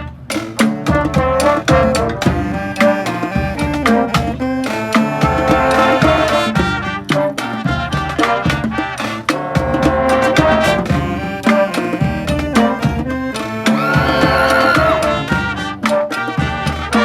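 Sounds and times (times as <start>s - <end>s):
brass band horns: 0.0s - 17.0s
drum line beating: 0.0s - 17.0s.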